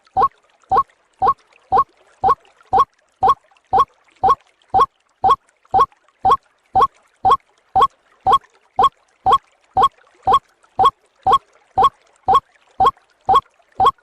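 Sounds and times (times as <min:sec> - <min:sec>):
waterhen calling: 0:00.0 - 0:06.9, 0:07.8 - 0:09.4, 0:10.3 - 0:14.0.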